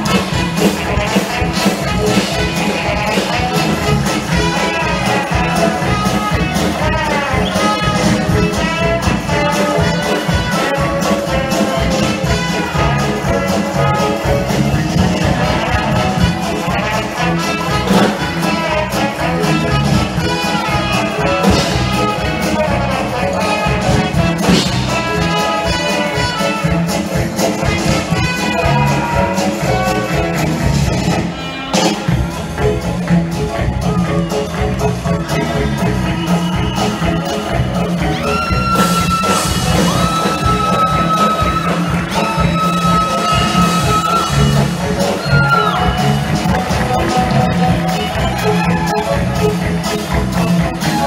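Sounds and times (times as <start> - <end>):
brass band music: 0.0 - 51.0
percussion hits: 0.0 - 51.0.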